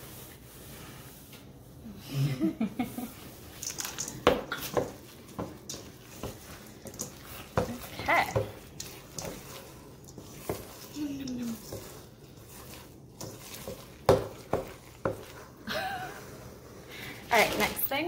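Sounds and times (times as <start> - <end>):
wooden spoon scraping metal bowl: 3.0 - 18.0.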